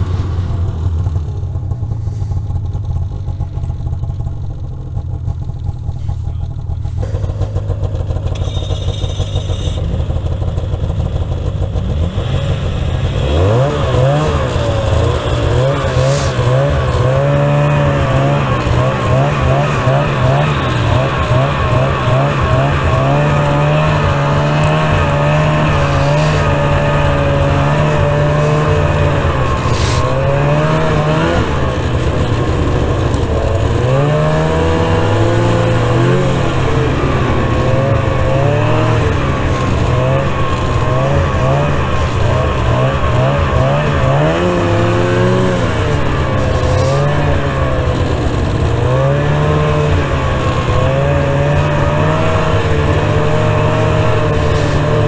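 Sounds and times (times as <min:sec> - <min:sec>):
snowmobile engine: 0:00.0 - 0:55.0.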